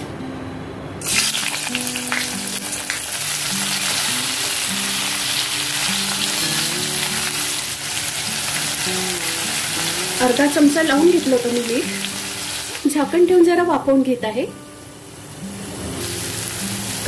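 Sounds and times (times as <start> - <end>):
vegetables sizzling in hot oil: 1.0 - 17.0.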